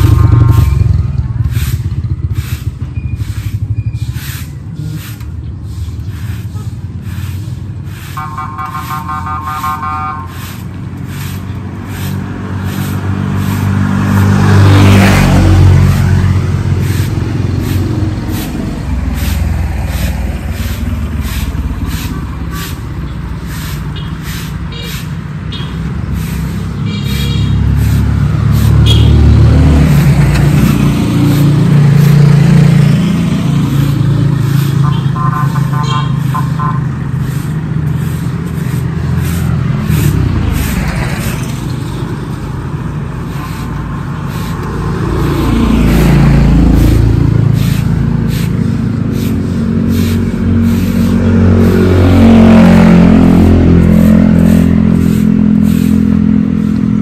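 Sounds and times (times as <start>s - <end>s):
broom sweeping concrete: 0.0s - 57.0s
road vehicles passing: 0.0s - 57.0s.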